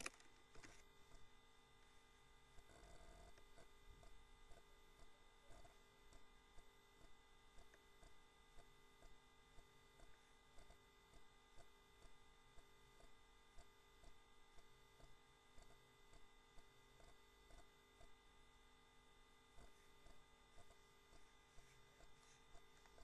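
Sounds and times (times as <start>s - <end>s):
faint electrical hum: 0.0s - 23.0s
faint ticks: 2.5s - 18.3s, 19.0s - 23.0s.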